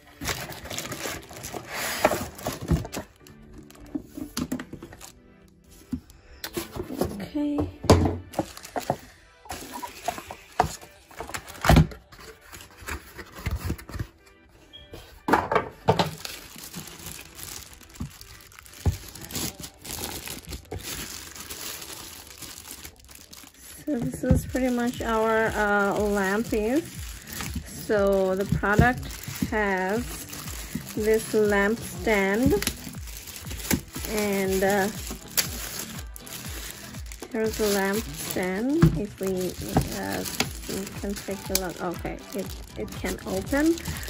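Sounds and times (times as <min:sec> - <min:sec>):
plastic bags crinkling: 0:00.0 - 0:07.2, 0:08.3 - 0:14.0, 0:15.9 - 0:44.0
cardboard and plastic rustling: 0:00.0 - 0:07.3, 0:08.0 - 0:14.3, 0:14.9 - 0:44.0
soft background music: 0:00.0 - 0:44.0.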